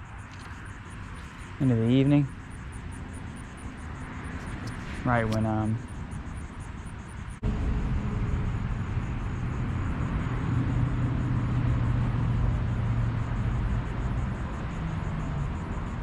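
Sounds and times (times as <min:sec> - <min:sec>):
vehicle engine hum and tyre noise: 0:00.0 - 0:16.0.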